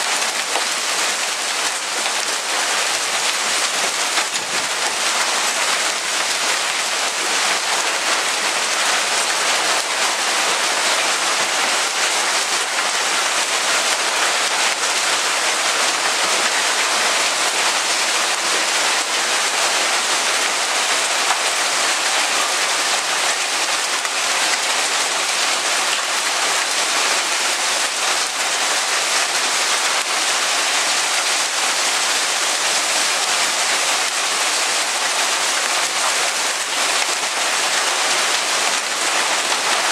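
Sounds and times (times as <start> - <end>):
hail falling on grass: 0.0 - 39.9.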